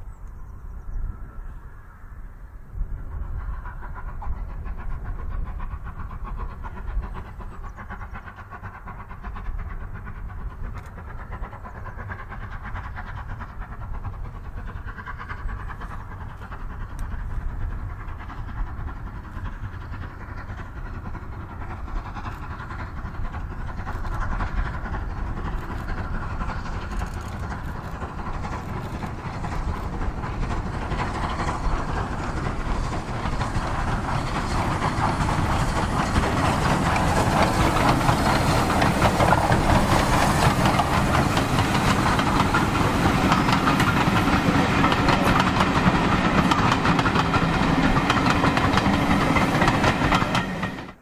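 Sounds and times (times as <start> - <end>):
steam locomotive working hard: 0.0 - 51.0.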